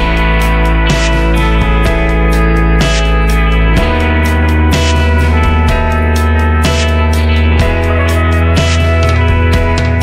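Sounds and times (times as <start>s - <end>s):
instrumental guitar music: 0.0s - 10.0s.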